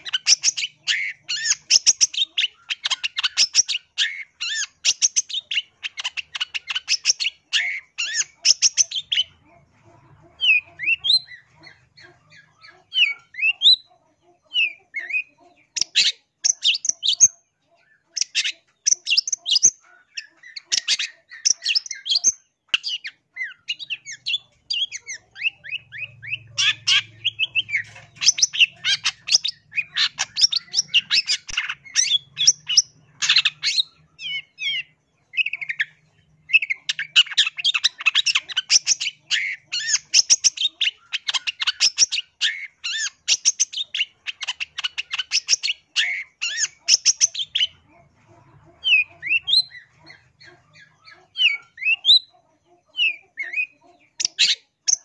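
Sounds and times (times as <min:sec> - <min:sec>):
bird chattering song: 0:00.0 - 0:55.0.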